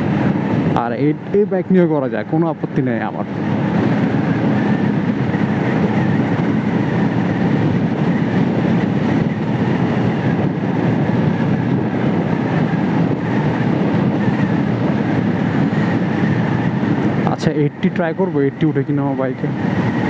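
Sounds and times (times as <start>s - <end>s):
motorcycle engine cruising: 0.0s - 20.0s
wind rushing over microphone: 0.0s - 20.0s.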